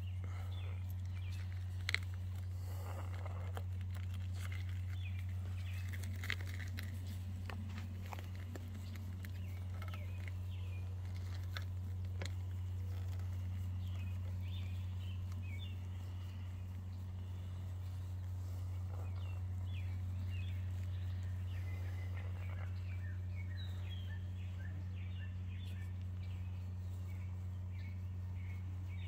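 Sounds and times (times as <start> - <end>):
birds chirping: 0.0 - 29.0
steady low hum: 0.0 - 29.0
steps on grass: 0.0 - 29.0.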